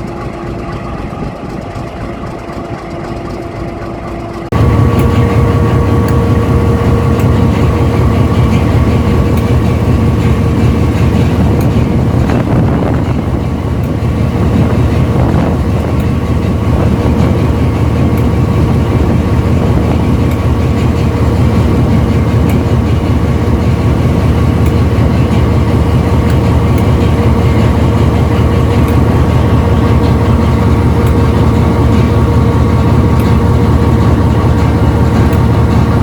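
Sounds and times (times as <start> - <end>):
locomotive engine running: 0.0 - 36.0.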